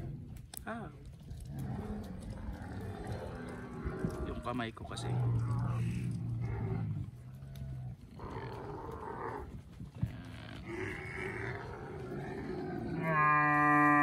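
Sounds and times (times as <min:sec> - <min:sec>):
camels groaning and bellowing: 0:00.0 - 0:14.0.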